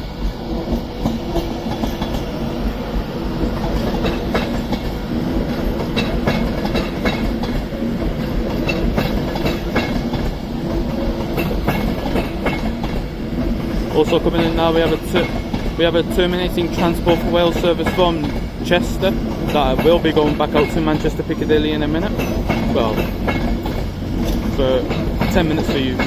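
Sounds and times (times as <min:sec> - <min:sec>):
electric train hum and rumble: 0:00.0 - 0:26.0
train wheels clicking over rail joints: 0:00.0 - 0:26.0.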